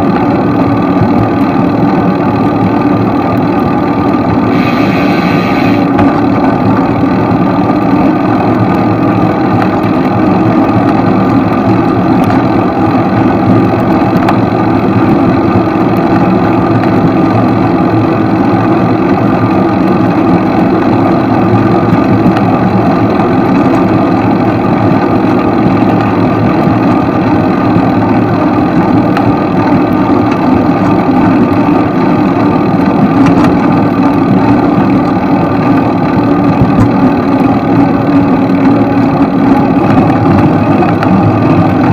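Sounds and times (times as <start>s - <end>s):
constant noisy rush: 0.0s - 41.9s
loud engine-like hum: 0.0s - 41.9s.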